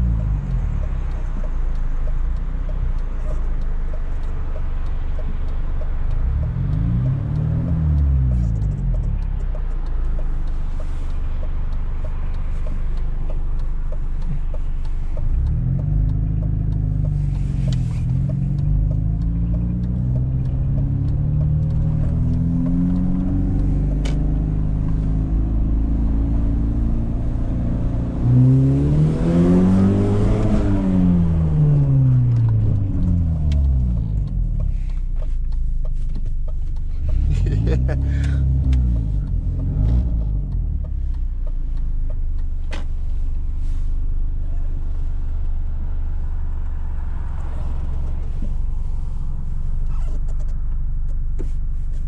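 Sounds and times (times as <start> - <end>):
car engine revving through exhaust: 0.0 - 52.0.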